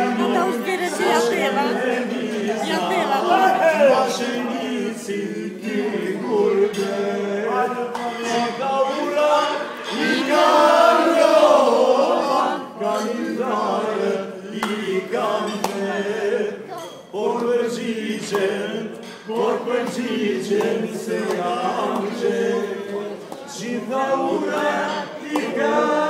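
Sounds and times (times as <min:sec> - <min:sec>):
men singing unaccompanied: 0:00.0 - 0:26.0.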